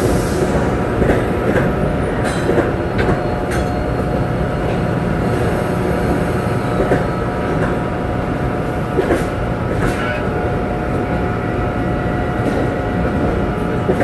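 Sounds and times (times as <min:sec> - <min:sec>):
passenger train rumbling by: 0:00.0 - 0:14.0.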